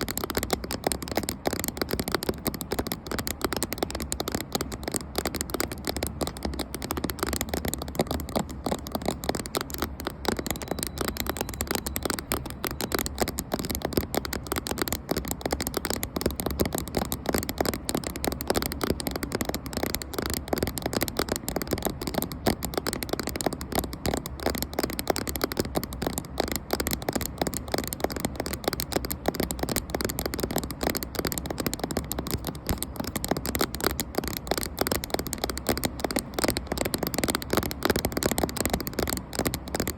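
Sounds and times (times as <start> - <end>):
fingers tapping on camera: 0.0 - 39.9.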